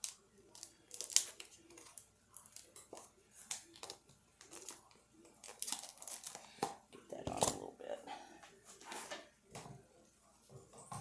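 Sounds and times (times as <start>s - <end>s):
kitchen handling crackles and rustles: 0.0s - 11.0s.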